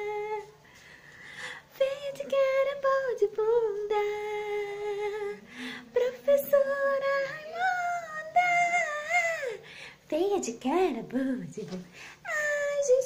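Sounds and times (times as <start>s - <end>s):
woman singing wordless tune: 0.0s - 0.6s, 1.7s - 13.0s.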